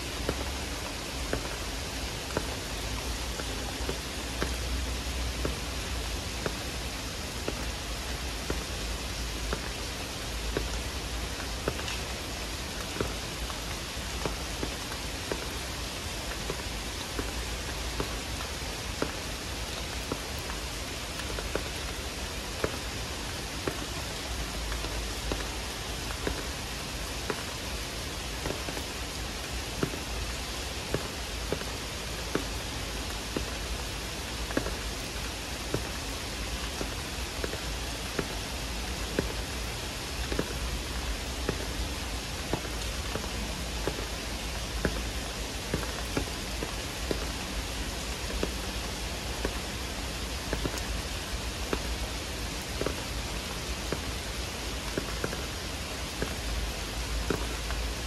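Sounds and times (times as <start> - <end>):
heavy rain pouring: 0.0 - 58.0
raindrops tapping close by: 0.0 - 58.0.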